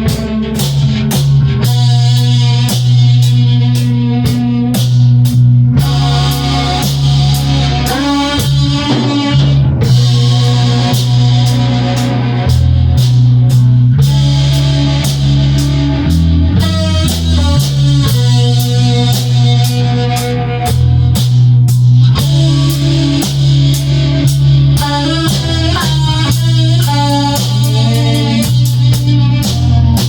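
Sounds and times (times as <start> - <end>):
bass guitar: 0.0 - 30.0
drum kit steady beat: 0.0 - 30.0
electric guitar: 0.0 - 30.0.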